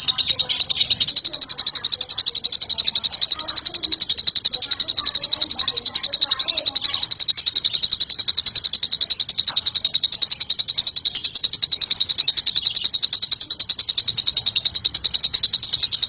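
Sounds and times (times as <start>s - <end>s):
faint high chirps: 0.0s - 16.0s
songbird rapid trill: 0.0s - 16.0s.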